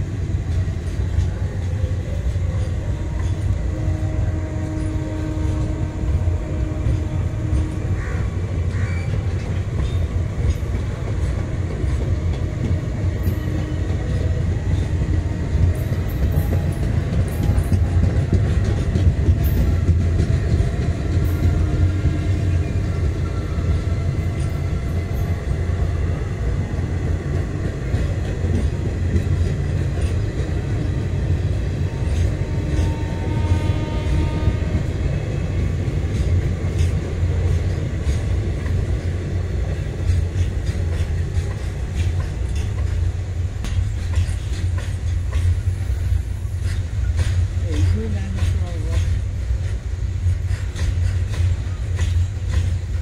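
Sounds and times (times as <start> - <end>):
train wheels rumbling on track: 0.0 - 53.0.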